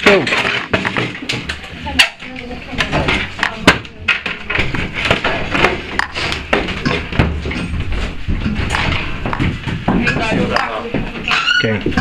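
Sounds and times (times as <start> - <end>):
footsteps on debris-strewn floor: 0.0 - 11.4.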